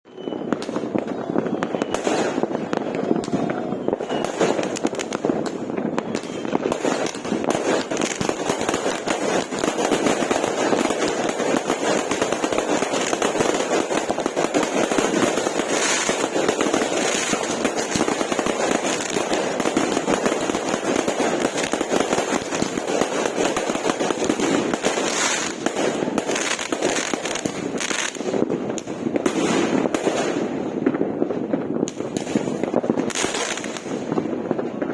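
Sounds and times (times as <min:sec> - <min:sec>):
fireworks bangs and crackles: 0:00.1 - 0:34.9.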